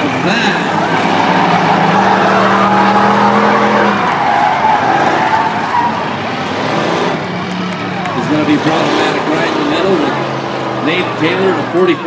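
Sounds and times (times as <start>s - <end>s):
race car engines: 0.0s - 12.0s
tyres squealing: 0.5s - 11.5s.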